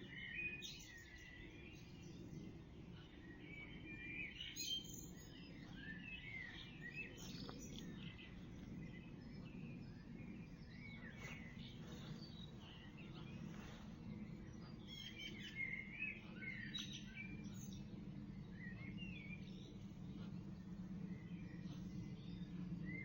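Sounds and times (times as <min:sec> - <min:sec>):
low background hum: 0:00.0 - 0:23.0
songbirds singing: 0:00.0 - 0:23.0.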